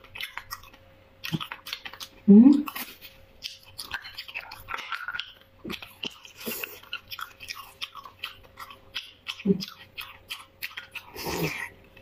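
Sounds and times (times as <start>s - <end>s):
chewing and wet mouth sounds: 0.0s - 12.0s.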